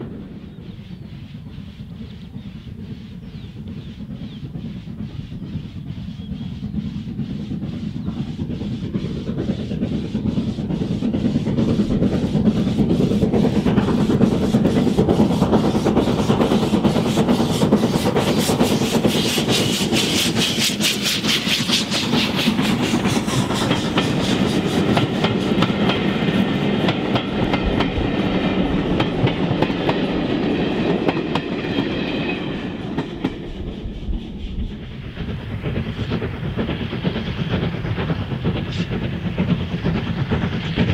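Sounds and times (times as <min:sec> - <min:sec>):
steam locomotive chuffing: 0:00.0 - 0:40.9
train running noise: 0:00.0 - 0:40.9.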